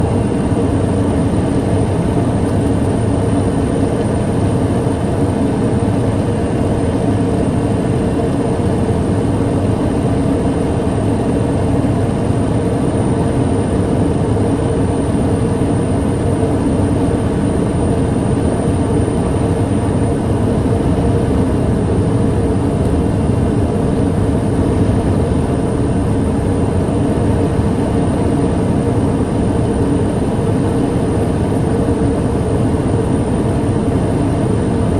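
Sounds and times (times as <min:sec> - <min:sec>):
high turbine whine: 0:00.0 - 0:34.9
turboprop engine drone: 0:00.0 - 0:34.9.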